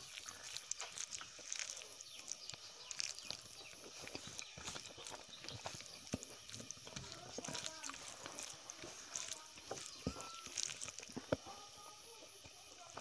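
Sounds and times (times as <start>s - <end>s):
chewing and mouth smacks: 0.0s - 11.5s
fingers squishing rice: 0.0s - 13.0s
small wet clicks: 0.0s - 13.0s.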